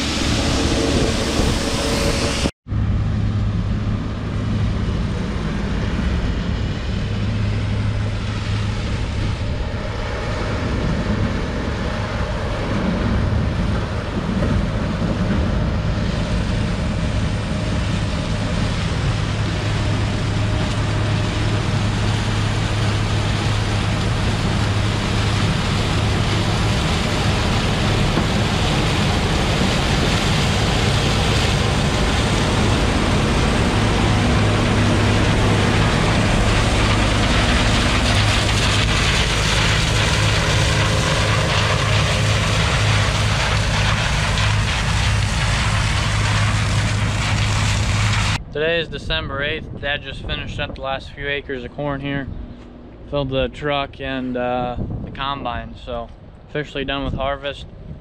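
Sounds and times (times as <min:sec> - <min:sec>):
combine harvester running: 0:00.0 - 0:49.1.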